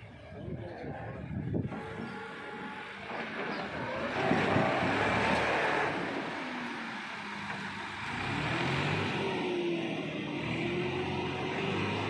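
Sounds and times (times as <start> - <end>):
tractor diesel engine passing: 1.5 - 12.0.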